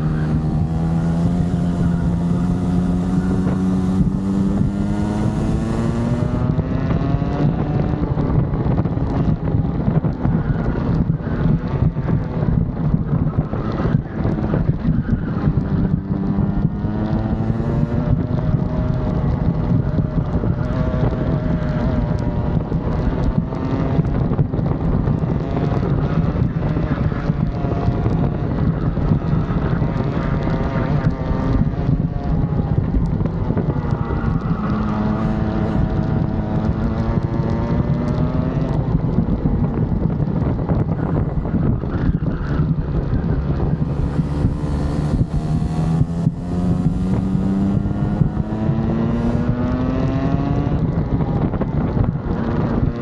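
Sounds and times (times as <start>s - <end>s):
two-stroke kart engine: 0.0s - 53.0s
wind buffeting microphone: 0.0s - 53.0s.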